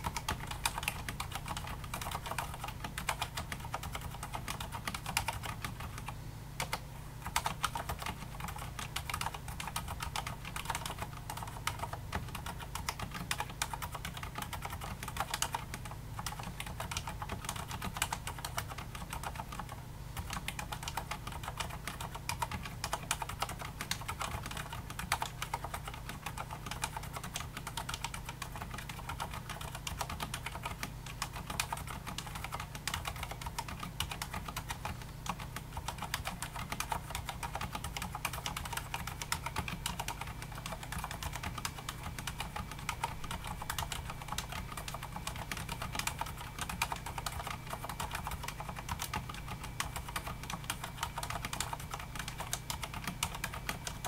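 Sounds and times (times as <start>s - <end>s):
mechanical keyboard typing: 0.0s - 54.0s.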